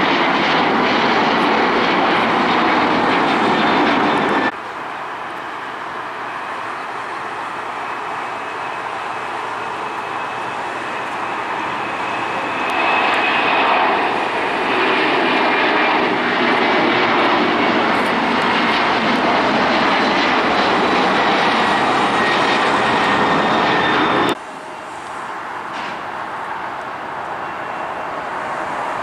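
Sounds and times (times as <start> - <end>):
distant airport noise: 0.0 - 29.0
jet engines at takeoff: 0.0 - 29.0.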